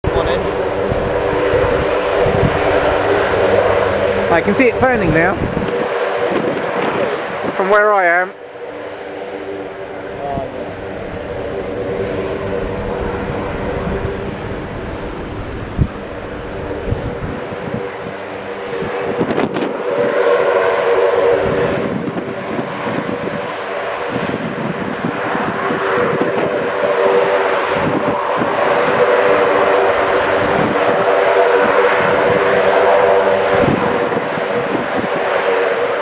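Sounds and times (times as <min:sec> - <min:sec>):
turboprop engine drone: 0:00.0 - 0:36.0
wind buffeting microphone: 0:00.0 - 0:36.0.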